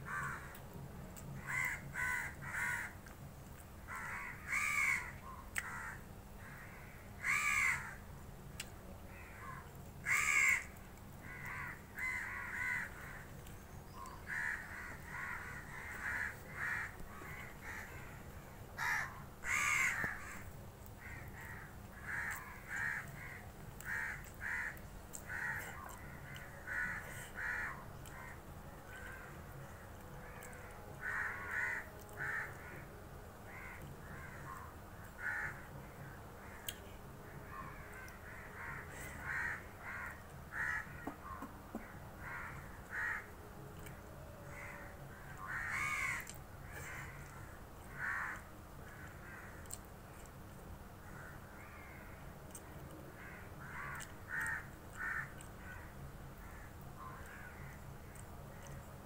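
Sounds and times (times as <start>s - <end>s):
crows cawing: 0.1s - 0.6s, 1.4s - 3.1s, 3.9s - 8.0s, 9.1s - 13.4s, 14.2s - 18.2s, 18.8s - 36.7s, 37.4s - 43.4s, 44.4s - 49.8s, 51.0s - 57.9s.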